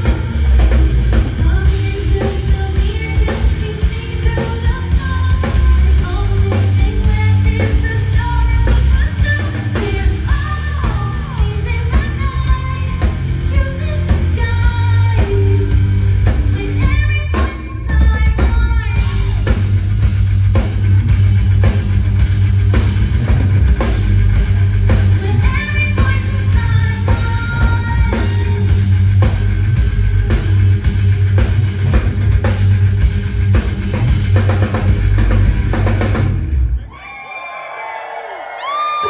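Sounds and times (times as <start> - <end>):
drum kit: 0.0 - 36.8
heavy bass: 0.0 - 37.0.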